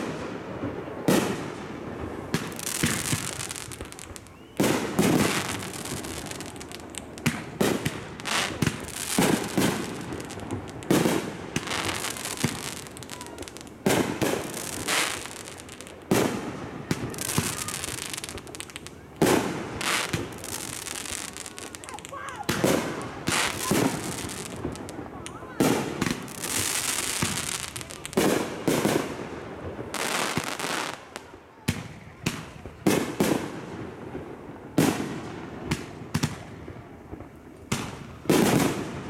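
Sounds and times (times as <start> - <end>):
fireworks bursting: 0.0 - 39.0.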